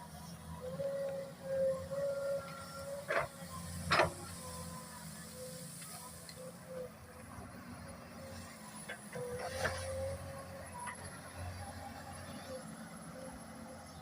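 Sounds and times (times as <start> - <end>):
excavator engine rumbling: 0.0 - 14.0.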